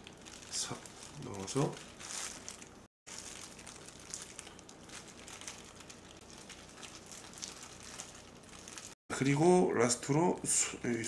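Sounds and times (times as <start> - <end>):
plastic gloves crinkling: 0.0 - 9.0.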